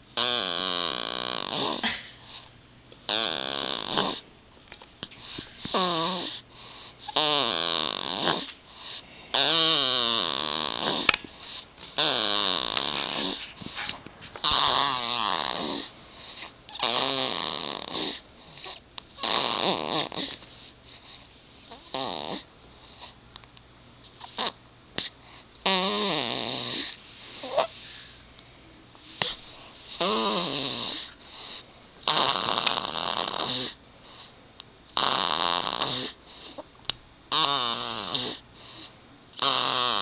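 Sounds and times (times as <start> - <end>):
baby snoring: 0.2 - 2.4, 3.1 - 4.2, 5.3 - 23.2, 24.2 - 27.8, 29.2 - 34.3, 35.0 - 36.7, 37.3 - 40.0.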